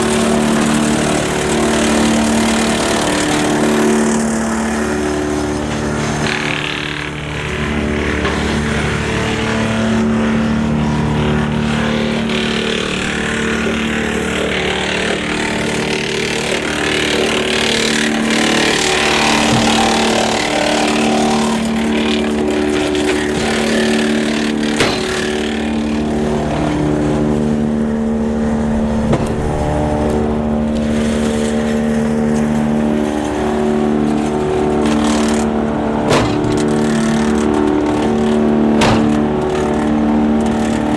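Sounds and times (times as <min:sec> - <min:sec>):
wood chipper humming: 0:00.0 - 0:40.9.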